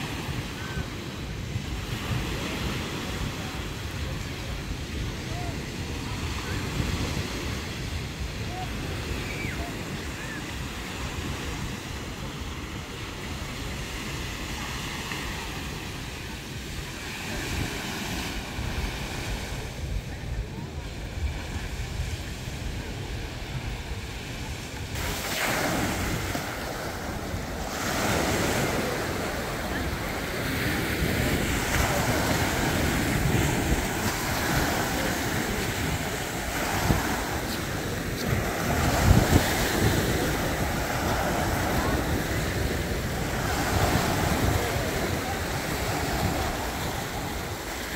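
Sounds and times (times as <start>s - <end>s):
small waves breaking on shore: 0.0s - 47.9s
wind rumbling on microphone: 0.0s - 47.9s.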